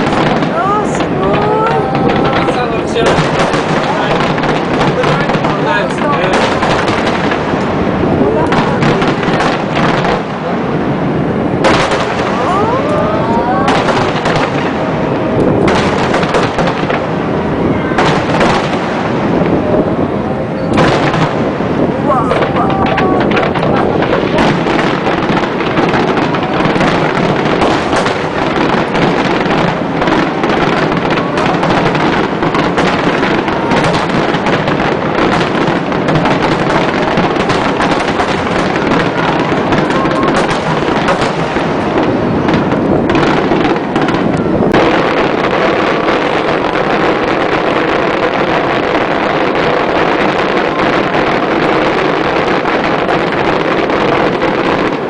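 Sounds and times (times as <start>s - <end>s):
continuous wash of noise: 0.0s - 55.0s
fireworks bursts and crackle: 0.0s - 55.0s.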